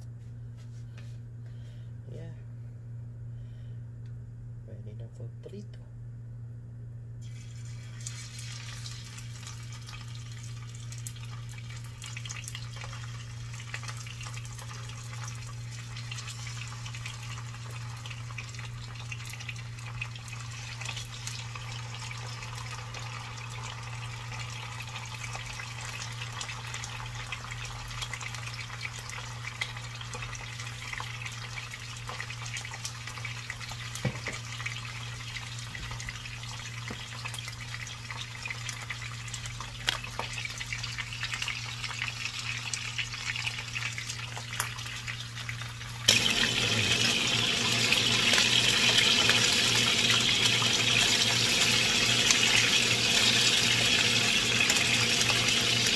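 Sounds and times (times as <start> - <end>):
fish sizzling in hot oil: 7.2 - 55.9.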